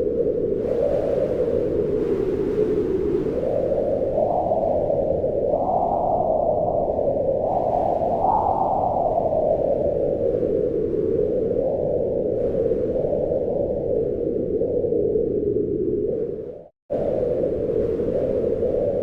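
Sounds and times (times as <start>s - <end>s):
wind blowing in gusts: 0.0s - 19.0s.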